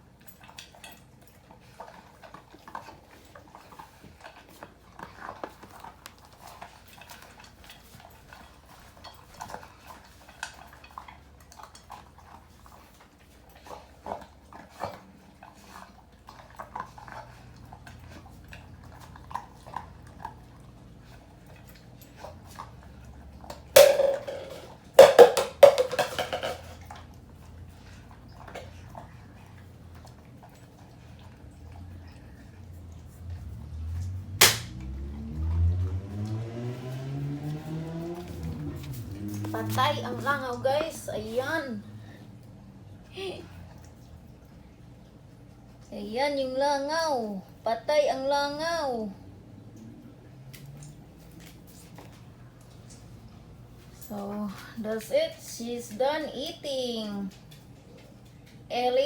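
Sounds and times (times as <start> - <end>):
dog chewing food: 0.0 - 46.0, 49.0 - 59.0.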